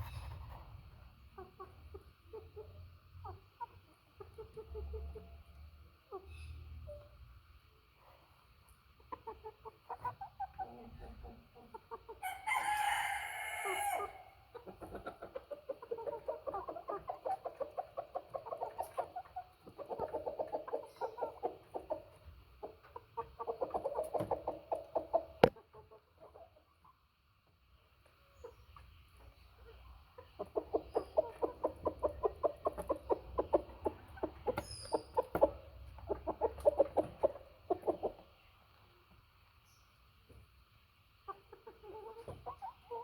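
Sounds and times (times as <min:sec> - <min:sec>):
hens clucking: 0:00.0 - 0:05.4, 0:08.9 - 0:27.1, 0:28.0 - 0:38.5, 0:41.2 - 0:43.0.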